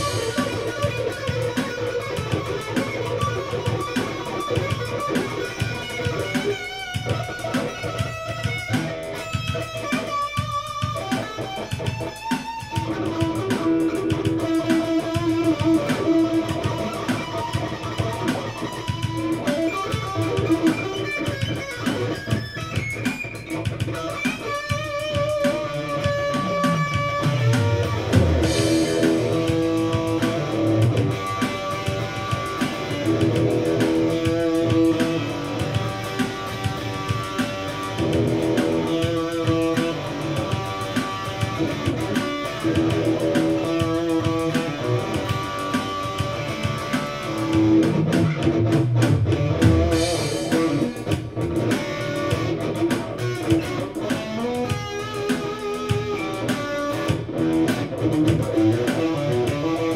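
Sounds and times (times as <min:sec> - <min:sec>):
electric guitar: 0:00.0 - 0:59.9.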